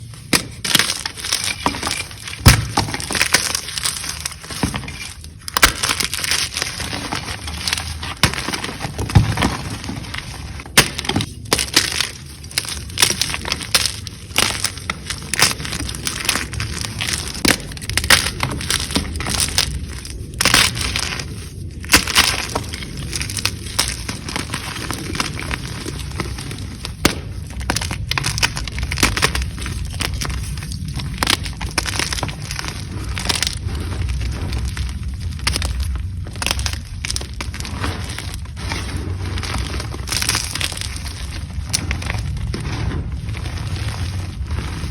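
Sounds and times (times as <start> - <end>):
chalk crunching and cracking: 0.0 - 44.9.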